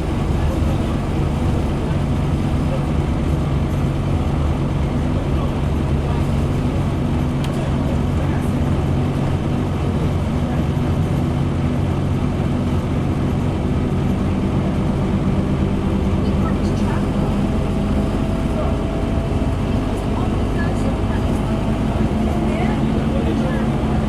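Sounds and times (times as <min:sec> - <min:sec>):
bus diesel engine running: 0:00.0 - 0:24.0
road noise: 0:00.0 - 0:24.0.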